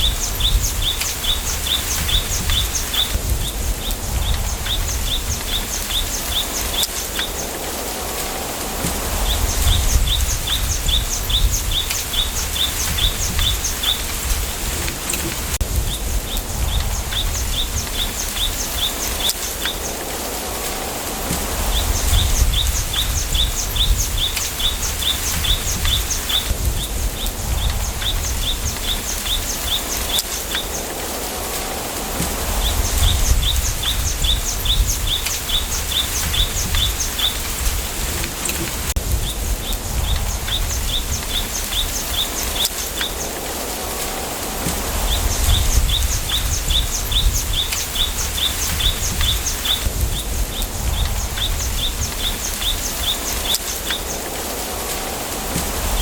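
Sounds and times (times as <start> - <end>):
wind rustling bamboo: 0.0 - 56.0.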